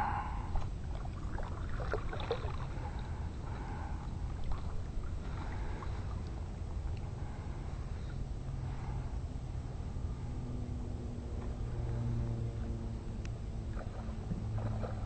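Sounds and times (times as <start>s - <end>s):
water lapping against hull: 0.0s - 10.6s, 11.2s - 15.0s.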